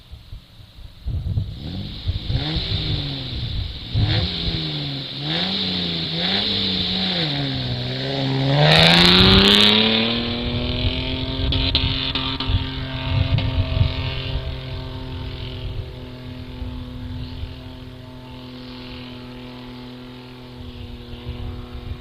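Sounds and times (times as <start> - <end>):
vehicle engine revving: 1.4 - 22.0.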